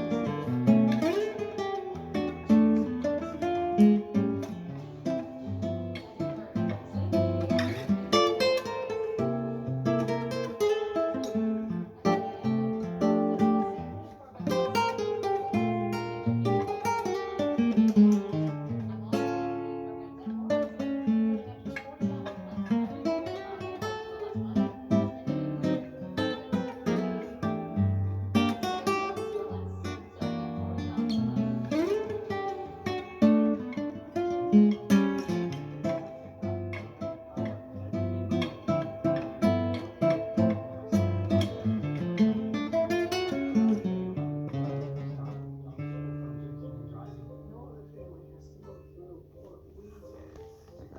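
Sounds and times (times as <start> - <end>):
classical guitar notes and chords: 0.0 - 50.9.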